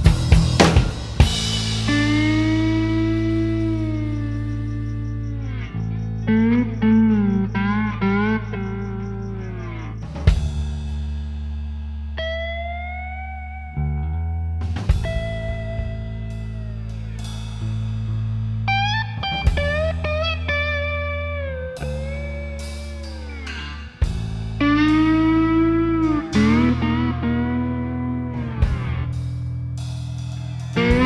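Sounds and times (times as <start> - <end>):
slide guitar bending notes: 0.0 - 9.9, 12.2 - 17.3, 18.7 - 29.7, 30.8 - 31.0
steady bass: 0.0 - 31.0.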